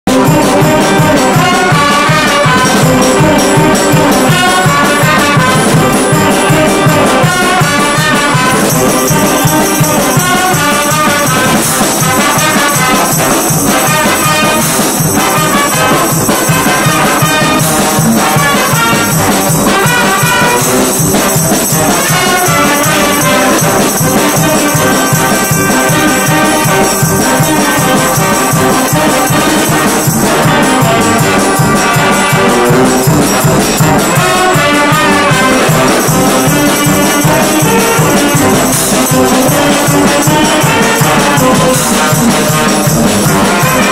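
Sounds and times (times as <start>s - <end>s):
brass band playing: 0.0s - 43.9s.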